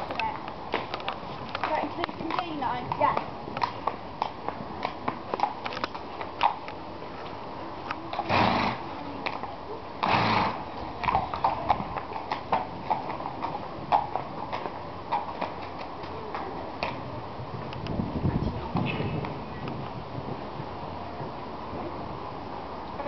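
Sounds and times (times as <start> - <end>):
horse hooves cantering: 0.0 - 23.0.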